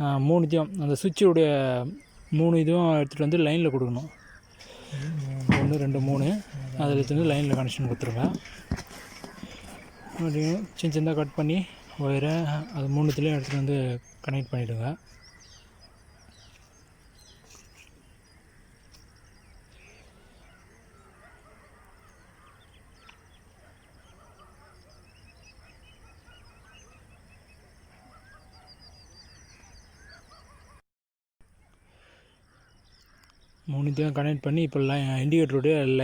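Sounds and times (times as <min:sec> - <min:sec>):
distant bird chirps and trills: 0:00.0 - 0:30.8, 0:31.5 - 0:36.0.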